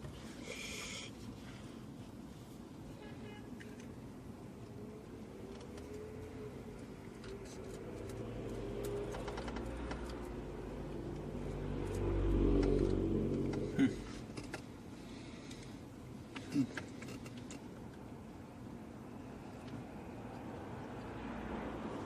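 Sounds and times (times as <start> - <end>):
vehicle engine hum: 3.5 - 22.0.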